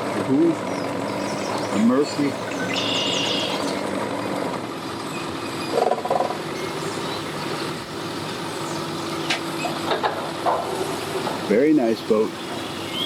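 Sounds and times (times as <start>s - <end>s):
boat and vehicle engines running: 0.0s - 13.0s.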